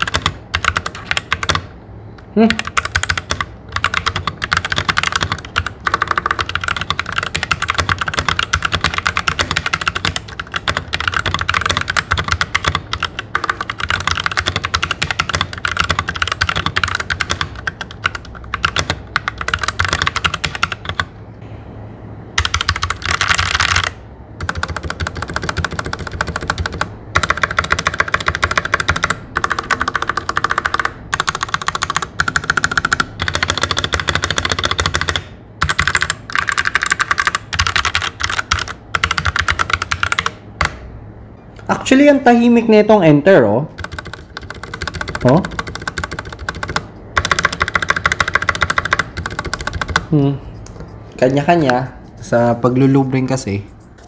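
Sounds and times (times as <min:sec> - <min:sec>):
mechanical keyboard typing: 0:00.0 - 0:01.7, 0:02.4 - 0:21.1, 0:22.4 - 0:40.8, 0:43.7 - 0:50.2.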